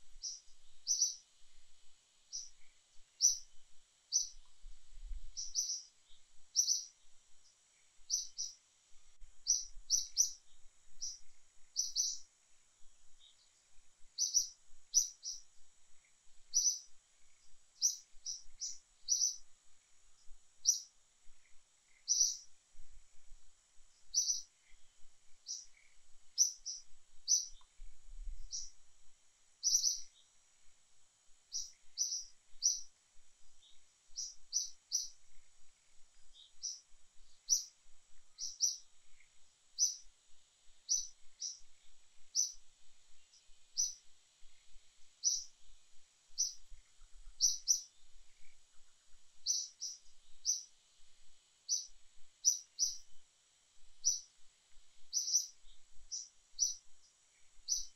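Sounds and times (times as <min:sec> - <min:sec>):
faint high-pitched hiss: 0:00.0 - 0:57.9
bird chirping: 0:00.2 - 0:01.3, 0:02.3 - 0:04.6, 0:05.2 - 0:08.6, 0:09.4 - 0:12.3, 0:13.1 - 0:22.6, 0:24.0 - 0:28.8, 0:29.6 - 0:30.4, 0:31.5 - 0:40.1, 0:40.8 - 0:45.7, 0:46.3 - 0:50.8, 0:51.6 - 0:53.2, 0:54.0 - 0:54.4, 0:55.0 - 0:57.9.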